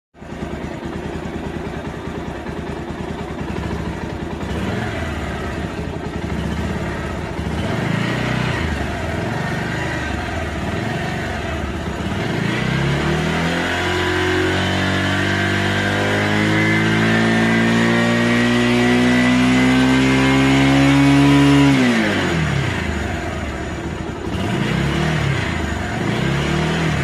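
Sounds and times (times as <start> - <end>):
motorcycle engine idling and revving: 0.2 - 27.0.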